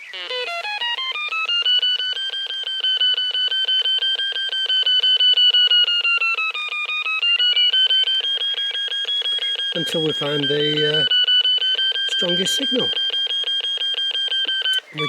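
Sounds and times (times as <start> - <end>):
rapid pulsing electronic beep: 0.0 - 15.0.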